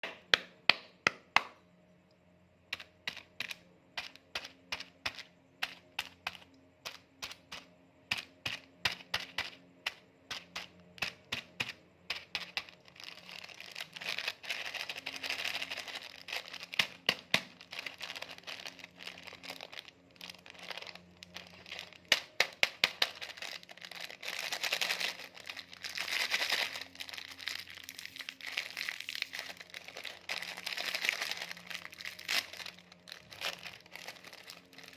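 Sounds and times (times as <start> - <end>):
plastic snack packets crinkling: 2.7 - 34.9.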